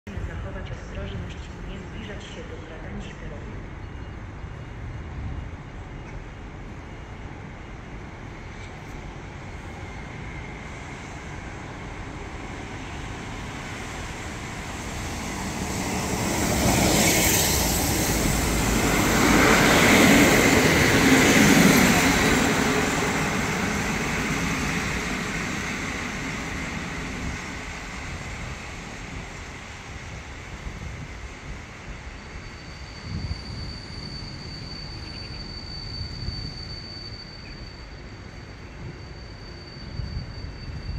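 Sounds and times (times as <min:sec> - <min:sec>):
diesel train passing: 0:00.1 - 0:40.9.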